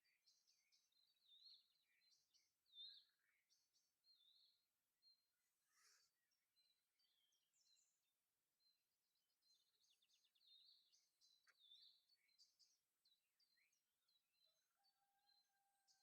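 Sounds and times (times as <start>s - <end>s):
faint songbird chirps: 0.0s - 16.0s.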